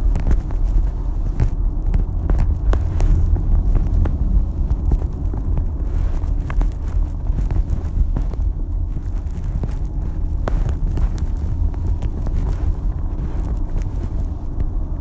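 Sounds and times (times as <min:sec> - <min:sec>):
small clicks and knocks: 0:00.0 - 0:14.8
taxi road and engine rumble: 0:00.0 - 0:15.0.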